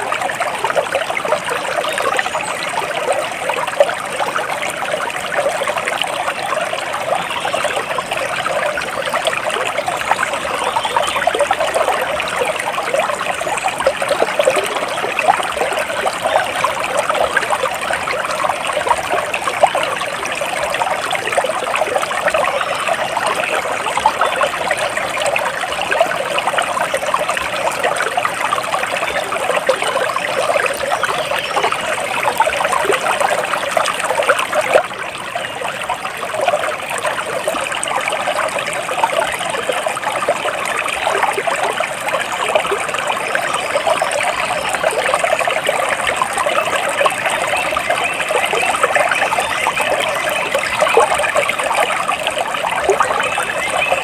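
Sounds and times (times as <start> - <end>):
stream trickling and splashing: 0.0 - 54.0.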